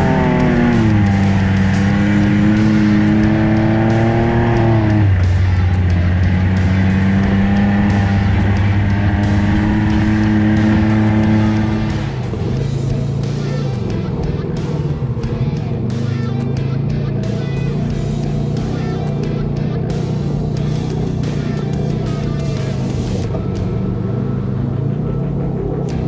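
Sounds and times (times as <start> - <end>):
utility vehicle engine under throttle: 0.0 - 26.0.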